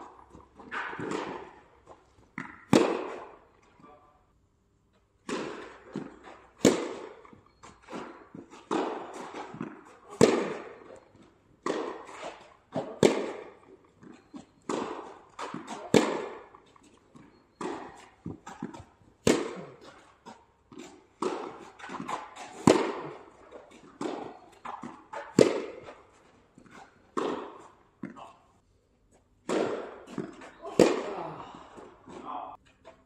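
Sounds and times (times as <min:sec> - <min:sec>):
tennis ball struck with rackets: 0:00.0 - 0:03.4, 0:05.2 - 0:28.3, 0:29.4 - 0:32.3
tennis ball bouncing: 0:00.0 - 0:03.8, 0:05.2 - 0:28.3, 0:29.4 - 0:33.0.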